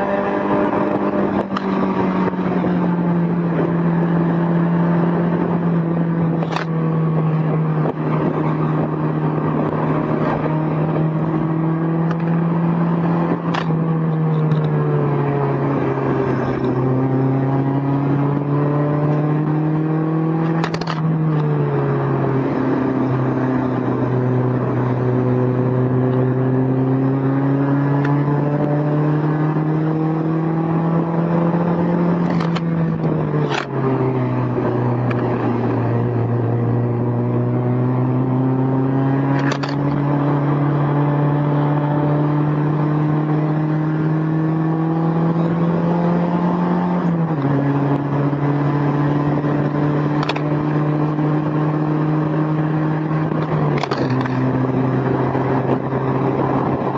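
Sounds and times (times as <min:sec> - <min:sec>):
car engine accelerating through gears: 0:00.0 - 0:56.9.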